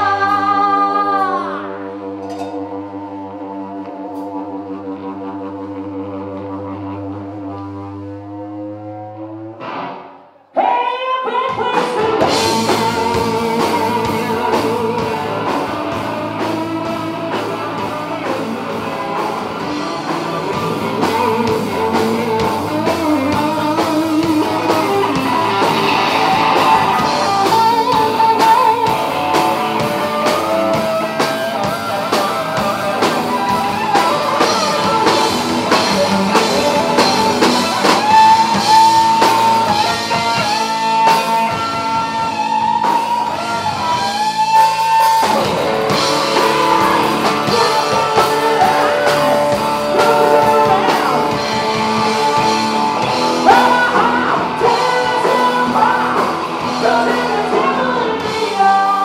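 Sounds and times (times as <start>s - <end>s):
bass guitar: 0.0s - 10.4s, 11.5s - 59.0s
electric guitar: 0.0s - 59.0s
drum kit: 2.0s - 7.9s, 11.4s - 59.0s.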